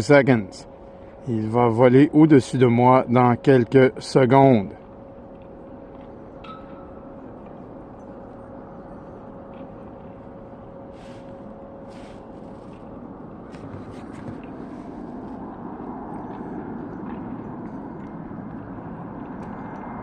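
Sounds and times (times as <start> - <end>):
airliner engine rushing: 0.0 - 20.0
steady hum: 0.0 - 20.0.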